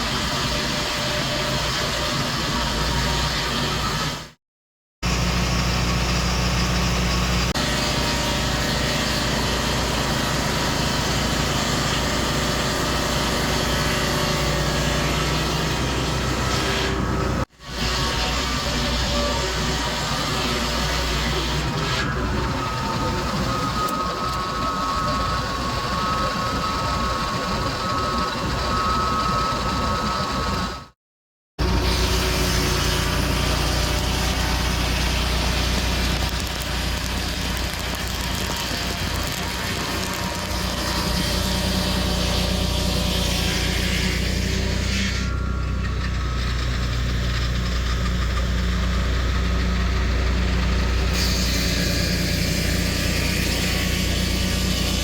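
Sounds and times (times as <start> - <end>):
sawmill cutting log: 0.0 - 4.4, 5.0 - 30.9, 31.6 - 55.0.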